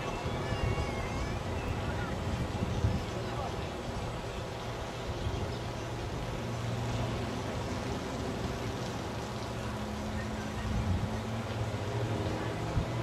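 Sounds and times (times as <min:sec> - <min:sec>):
strong wind: 0:00.0 - 0:08.8, 0:09.6 - 0:13.0
wind rumble on microphone: 0:00.0 - 0:09.2, 0:10.0 - 0:13.0.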